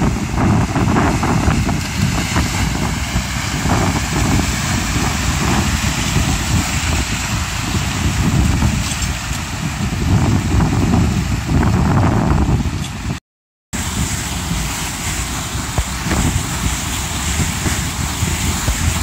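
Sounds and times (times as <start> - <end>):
vehicle wading through water: 0.0 - 13.2, 13.8 - 19.0
wind buffeting microphone: 0.0 - 13.2, 13.8 - 19.0.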